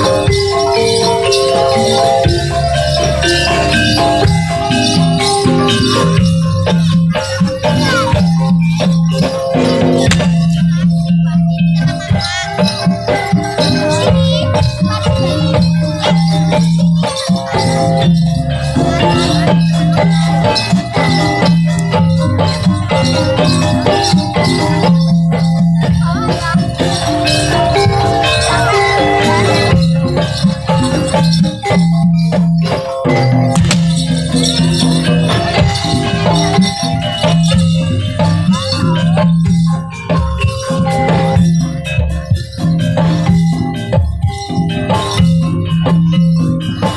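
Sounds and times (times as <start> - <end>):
drums: 0.0 - 46.9
metal gamelan percussion: 0.0 - 46.9.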